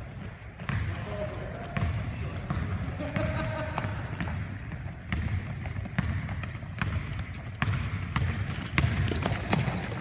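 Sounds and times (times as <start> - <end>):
sneakers squeaking: 0.0 - 10.0
basketball bouncing on hardwood: 0.6 - 1.1, 1.8 - 10.0.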